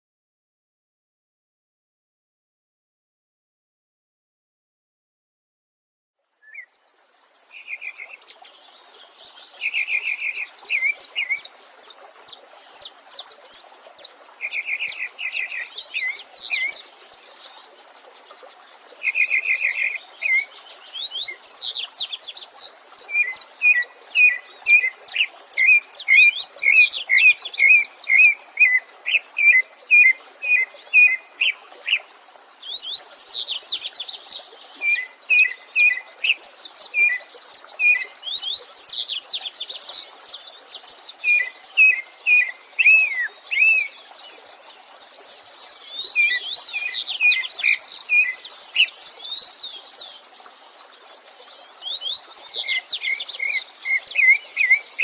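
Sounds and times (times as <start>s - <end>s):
running stream water: 6.2s - 55.0s
songbirds singing: 6.4s - 55.0s.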